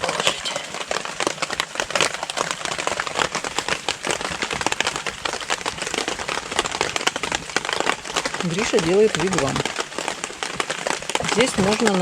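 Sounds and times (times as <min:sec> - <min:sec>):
campfire crackling: 0:00.0 - 0:12.0
rain falling on a tarp: 0:00.0 - 0:12.0.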